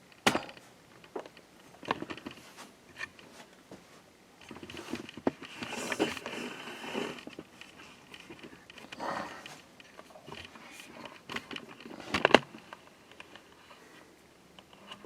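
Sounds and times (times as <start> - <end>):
shuffling and rustling: 0.6 - 15.0.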